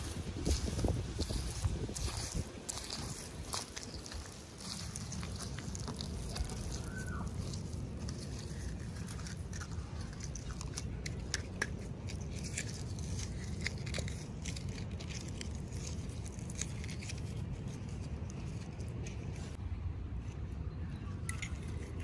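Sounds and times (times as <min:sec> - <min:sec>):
toy packaging crinkling: 0:00.0 - 0:17.6
steady low hum: 0:00.0 - 0:22.0.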